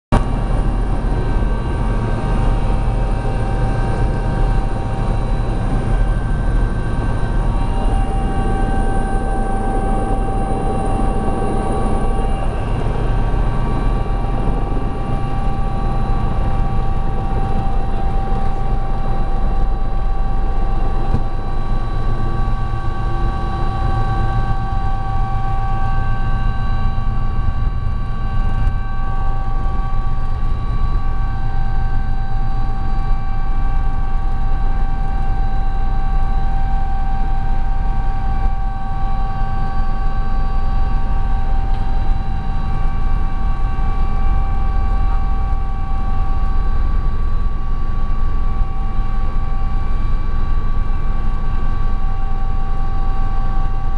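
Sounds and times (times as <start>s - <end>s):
helicopter rotor drone: 0.1s - 53.9s
high turbine whine: 0.1s - 53.9s.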